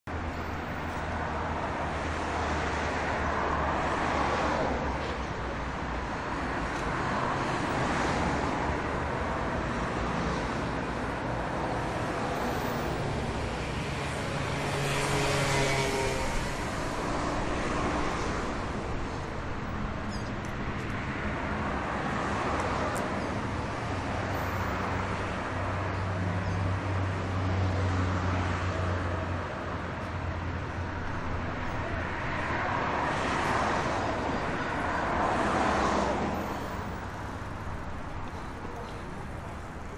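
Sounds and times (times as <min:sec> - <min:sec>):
cars and buses driving by: 0:00.0 - 0:39.9
hum of engines: 0:00.0 - 0:39.9.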